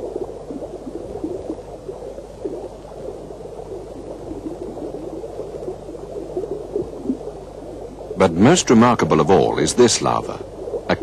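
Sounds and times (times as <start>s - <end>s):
faint low hum: 0.0s - 11.0s
underwater bubbling and gurgling: 0.0s - 11.0s.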